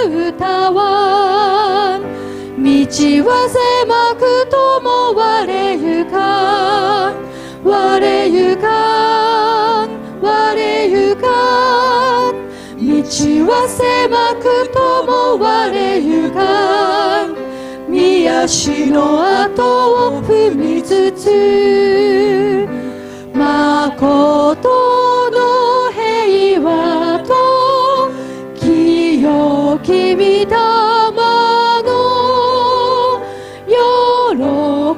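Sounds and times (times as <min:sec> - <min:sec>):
grand piano accompaniment: 0:00.0 - 0:34.9
women's choir singing a hymn: 0:00.0 - 0:34.9.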